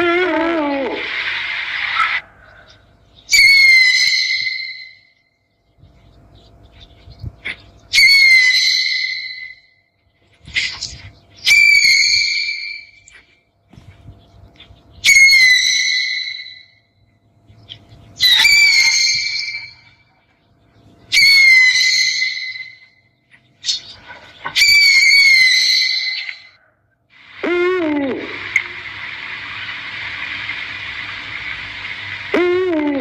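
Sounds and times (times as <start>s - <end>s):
owl calling: 0.0s - 5.3s, 6.7s - 9.8s, 10.5s - 13.3s, 14.6s - 16.8s, 17.7s - 20.1s, 21.1s - 33.0s.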